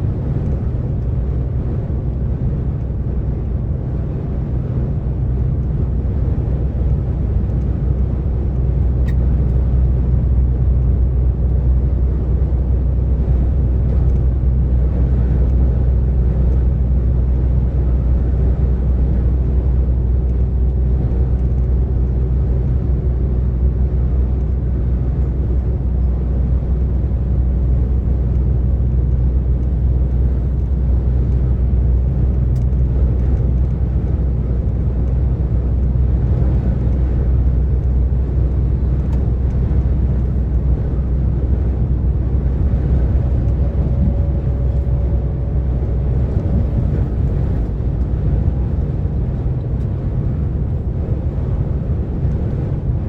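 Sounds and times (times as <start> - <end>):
road noise: 0.0 - 53.0
truck diesel engine drone: 0.0 - 53.0.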